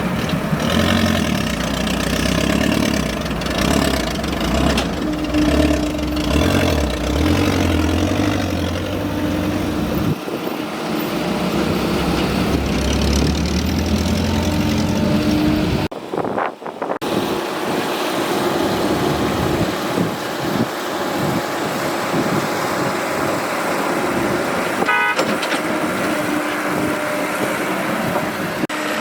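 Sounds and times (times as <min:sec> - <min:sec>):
excavator diesel engine running: 0:00.0 - 0:15.9, 0:17.1 - 0:29.0.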